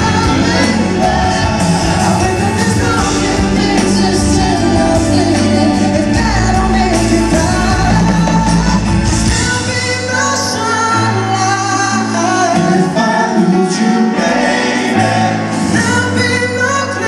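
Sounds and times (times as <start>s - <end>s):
band playing pop ballad: 0.0s - 17.0s
sung vocals: 0.0s - 17.0s.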